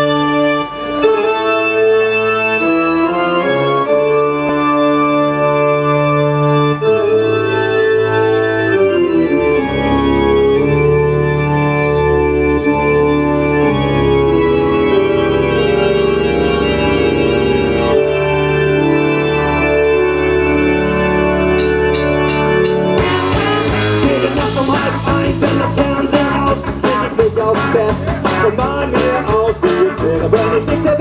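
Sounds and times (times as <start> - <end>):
bass line: 0.0 - 31.0
sustained organ chords: 0.0 - 31.0.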